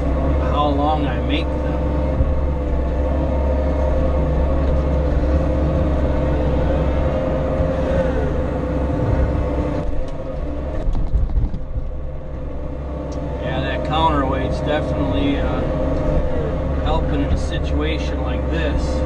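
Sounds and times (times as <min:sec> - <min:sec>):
excavator diesel engine under load: 0:00.0 - 0:19.0
hydraulic whine: 0:00.0 - 0:19.0.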